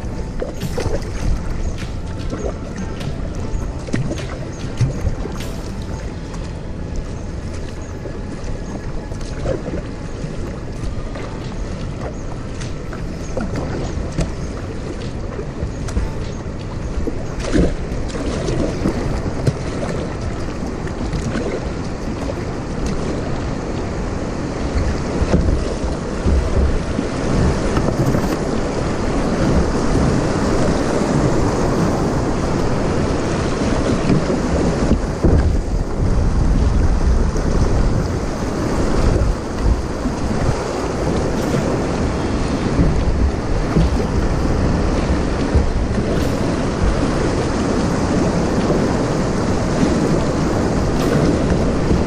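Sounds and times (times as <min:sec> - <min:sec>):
river rapids rushing and splashing: 0:00.0 - 0:52.0
wind rumble on microphone: 0:00.0 - 0:52.0.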